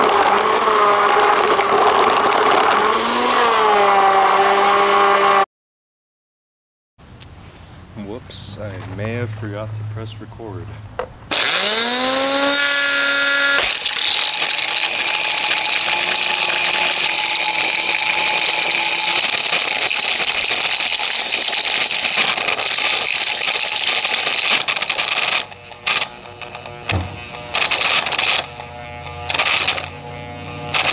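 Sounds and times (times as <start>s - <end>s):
blender motor whining and rattling: 0.0s - 5.5s, 11.3s - 30.9s.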